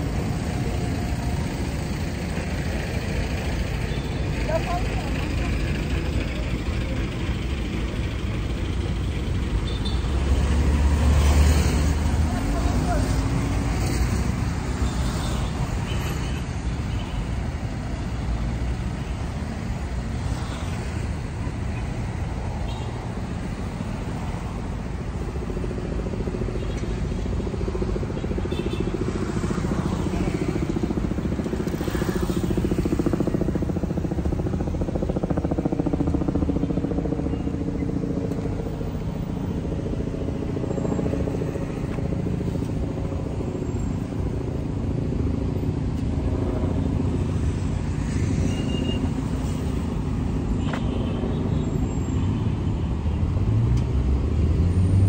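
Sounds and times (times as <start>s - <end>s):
road traffic: 0.0s - 55.0s
vehicle engine hum: 0.0s - 55.0s.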